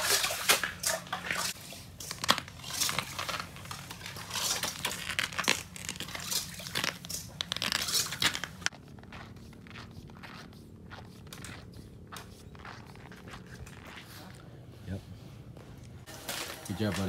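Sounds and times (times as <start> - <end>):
nylon fabric rustling: 1.3 - 17.0.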